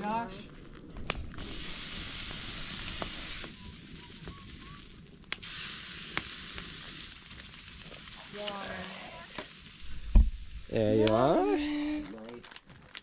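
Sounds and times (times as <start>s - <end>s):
sharp pops: 0.6s - 11.5s
steak sizzling on grill: 1.1s - 12.1s.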